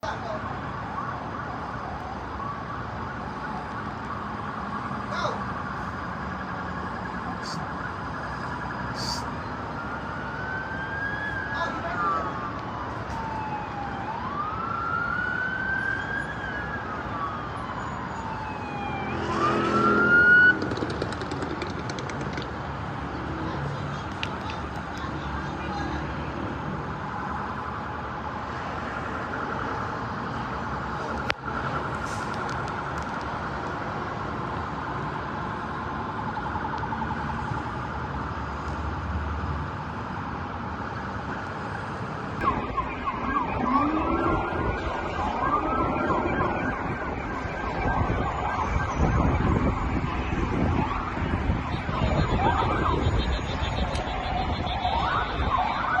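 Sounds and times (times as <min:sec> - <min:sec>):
sirens wailing and yelping: 0:00.0 - 0:56.0
street noise: 0:00.0 - 0:56.0.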